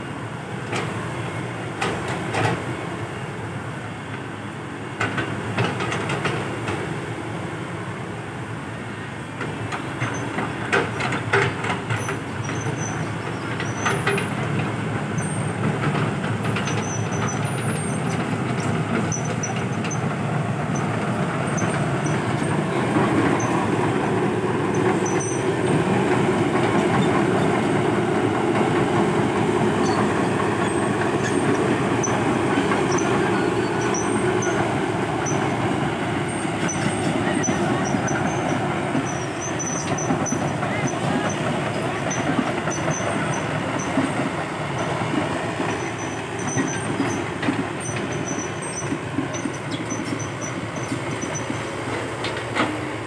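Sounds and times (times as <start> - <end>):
diesel engine under load: 0.0 - 53.0
metal tracks clanking and squealing: 0.7 - 3.4, 4.0 - 7.5, 9.0 - 53.0.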